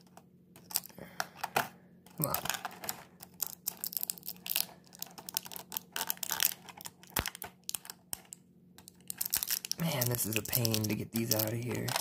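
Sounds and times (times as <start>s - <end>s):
plastic packaging crinkling: 0.6s - 1.0s, 2.2s - 12.0s.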